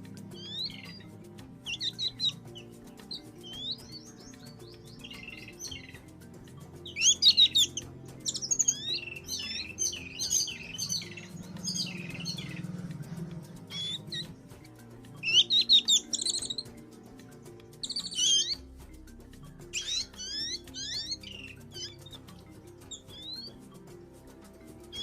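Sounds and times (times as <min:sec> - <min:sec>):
small birds chirping and singing: 0:00.0 - 0:25.0
soft background music: 0:00.0 - 0:25.0.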